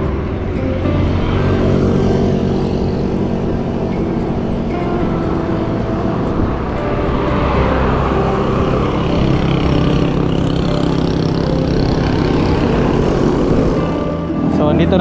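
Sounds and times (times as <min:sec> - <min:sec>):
bicycle tyres humming on road: 0:00.0 - 0:15.0
wind buffeting microphone: 0:00.0 - 0:15.0.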